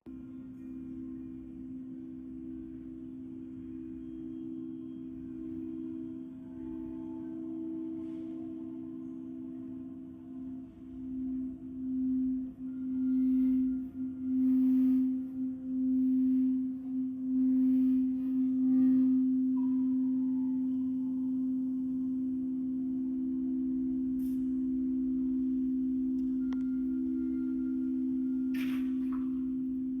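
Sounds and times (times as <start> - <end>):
singing bowls ringing: 0.0 - 30.0.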